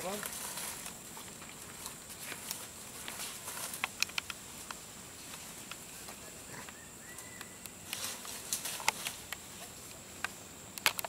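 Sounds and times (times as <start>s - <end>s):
rustling in dry leaves: 0.0s - 10.5s.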